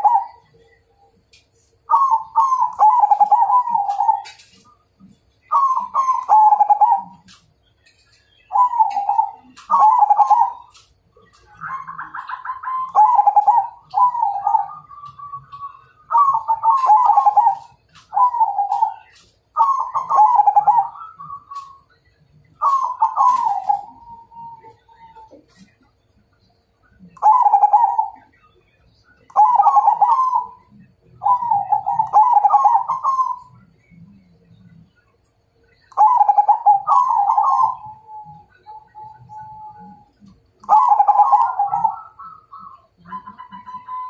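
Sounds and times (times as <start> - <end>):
dove cooing: 0.0 - 1.1, 1.8 - 7.5, 8.2 - 22.0, 22.6 - 25.7, 27.1 - 28.4, 29.3 - 34.6, 35.8 - 44.0.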